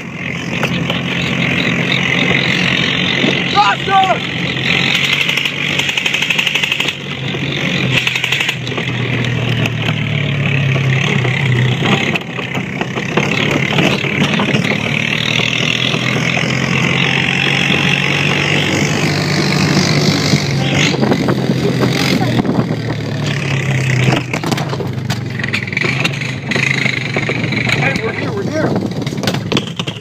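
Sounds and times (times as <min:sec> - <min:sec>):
quad bike engine humming: 0:00.0 - 0:30.0
rushing ride noise: 0:00.0 - 0:30.0.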